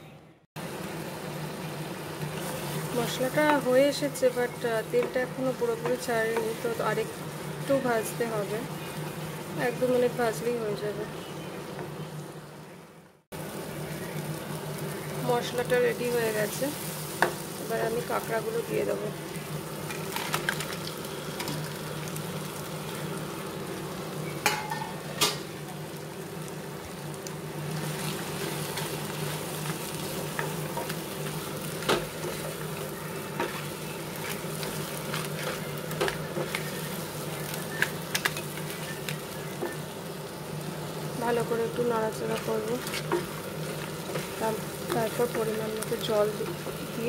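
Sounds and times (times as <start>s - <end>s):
crab sizzling in a pan: 0.6s - 47.0s.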